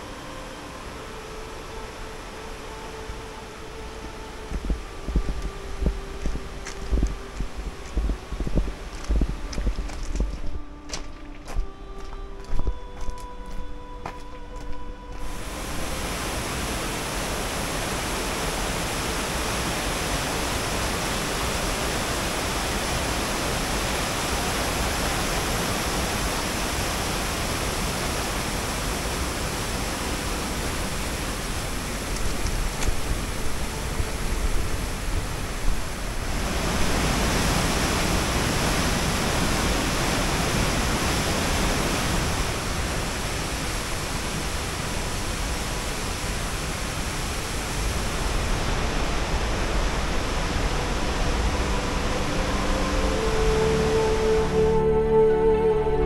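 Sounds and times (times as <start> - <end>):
river white water rushing: 0.0 - 56.0.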